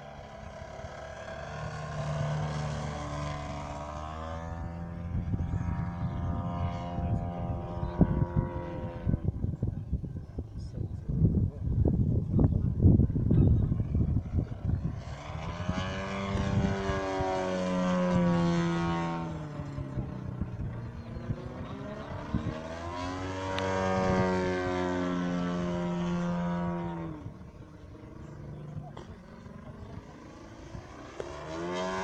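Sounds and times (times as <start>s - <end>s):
model airplane motor droning: 0.0s - 32.0s
wind rumbling on microphone: 0.0s - 32.0s.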